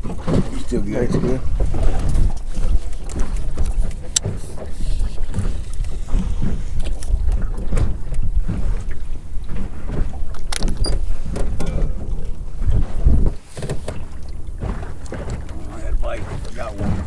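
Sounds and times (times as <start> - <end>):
outboard motor running: 0.0 - 17.0
wind gusting on microphone: 0.0 - 17.0.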